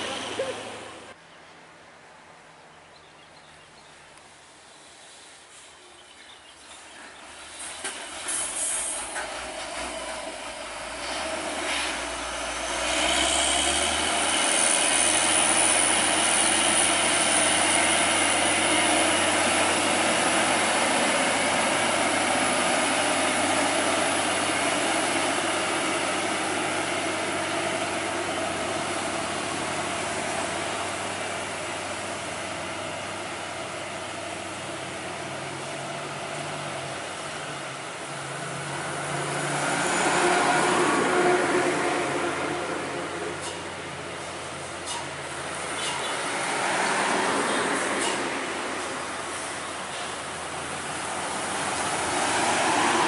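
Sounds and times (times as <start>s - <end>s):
diesel truck passing by: 0.0s - 1.2s, 6.7s - 53.0s.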